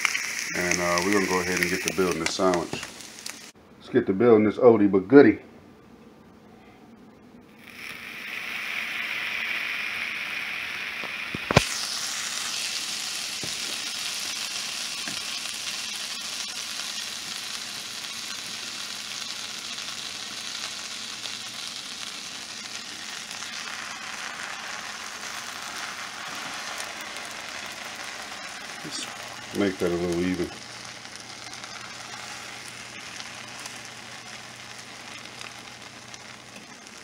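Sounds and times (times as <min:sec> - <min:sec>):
butter sizzling in a skillet: 0:00.0 - 0:03.6, 0:07.6 - 0:37.0.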